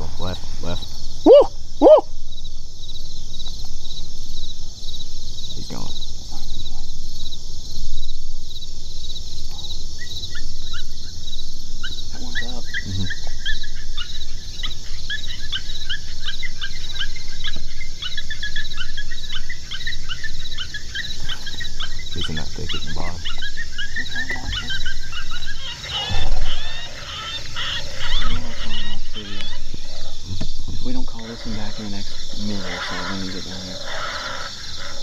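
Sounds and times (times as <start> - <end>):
coyotes yipping and howling: 0.0 - 35.0.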